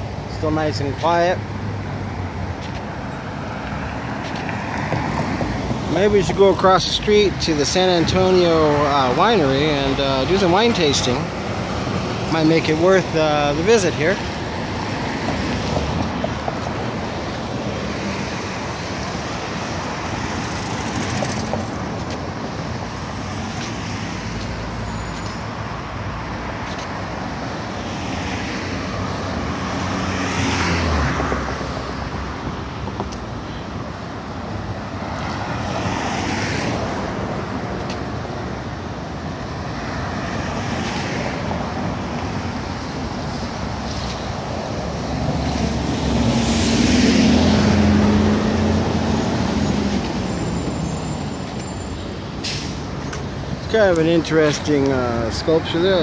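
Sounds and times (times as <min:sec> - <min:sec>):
city road traffic: 0:00.0 - 0:56.0.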